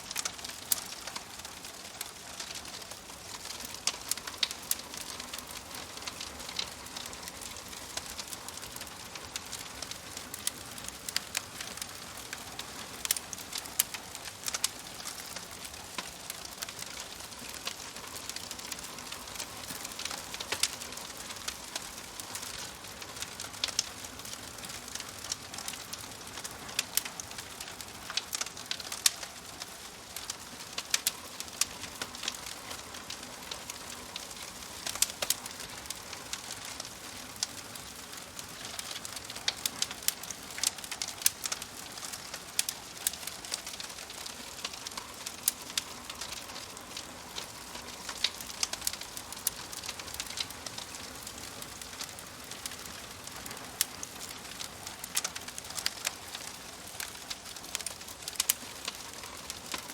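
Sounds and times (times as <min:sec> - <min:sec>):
fire pops and snaps: 0:00.0 - 0:59.9
wood fire hissing: 0:00.0 - 0:59.9.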